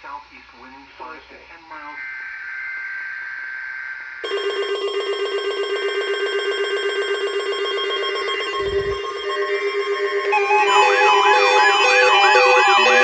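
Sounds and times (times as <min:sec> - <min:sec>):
steady high tone: 0:01.9 - 0:13.0
pulsing electronic warning alarm: 0:02.0 - 0:13.0.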